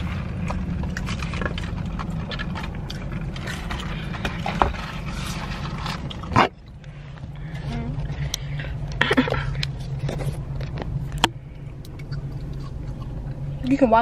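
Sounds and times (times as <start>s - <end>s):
car cabin hum: 0.0s - 14.0s.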